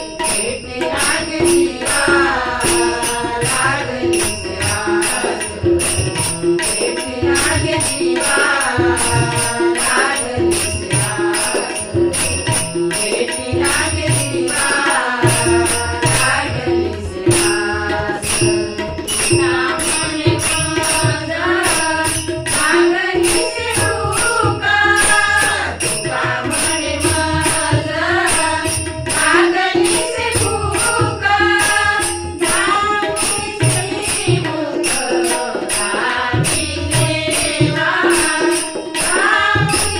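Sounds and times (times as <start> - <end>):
sung or harmonium melody: 0.0 - 34.9
small hand cymbals striking: 0.0 - 39.9
tabla: 0.0 - 39.9.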